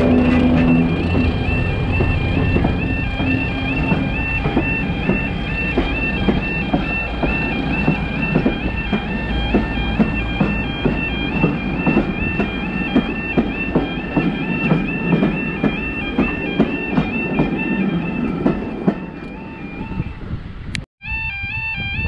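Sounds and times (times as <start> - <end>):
wheels clicking over rail joints: 0.0 - 19.6
level crossing alarm yelping: 0.0 - 20.2
train rumbling past: 0.0 - 20.7.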